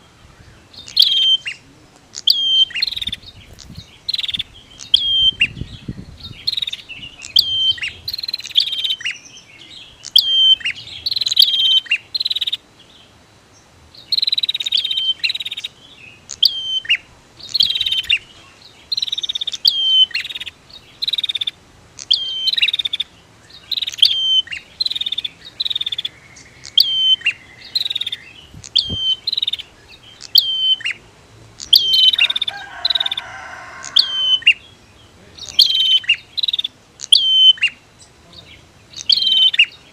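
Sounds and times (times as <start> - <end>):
bird sharp high chirps: 0.0 - 12.6, 14.0 - 39.9.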